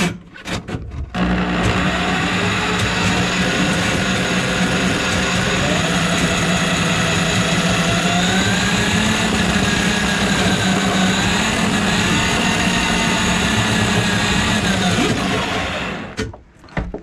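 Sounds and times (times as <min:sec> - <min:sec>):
drain auger motor humming: 0:01.1 - 0:16.2.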